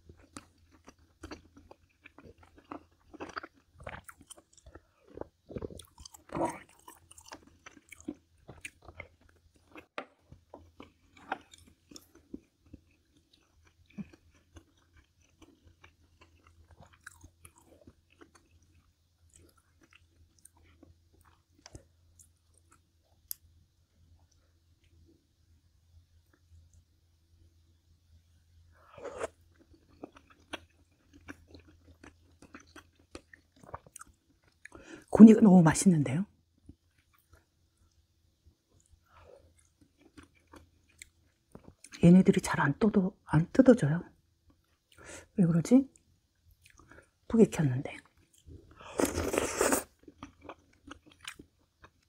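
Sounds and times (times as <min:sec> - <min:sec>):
person chewing food: 0:00.0 - 0:25.1, 0:28.8 - 0:35.1, 0:36.4 - 0:42.0, 0:46.4 - 0:47.3, 0:48.0 - 0:52.0.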